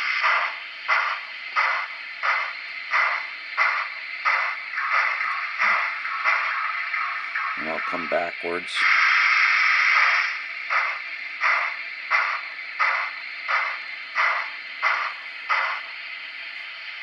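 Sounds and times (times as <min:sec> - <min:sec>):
steam hiss: 0:00.0 - 0:17.0
steam locomotive exhaust chuffs: 0:00.0 - 0:17.0.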